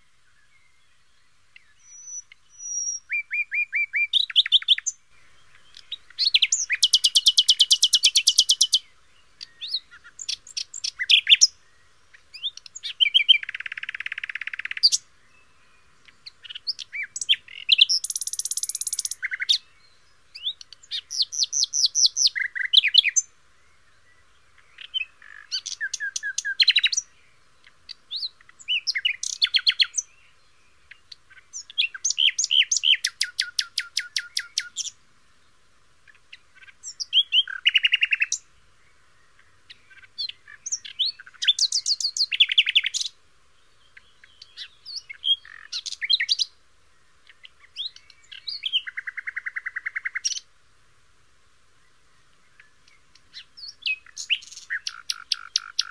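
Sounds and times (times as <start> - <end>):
songbird singing trills: 0.0 - 50.6, 51.7 - 55.9.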